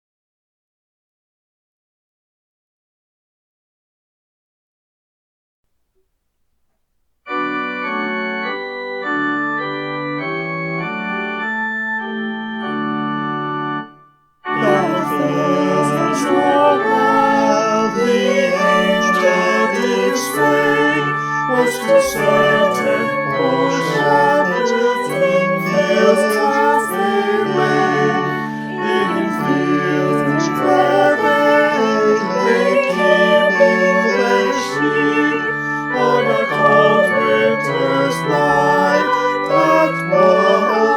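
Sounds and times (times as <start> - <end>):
organ music: 7.3 - 40.9.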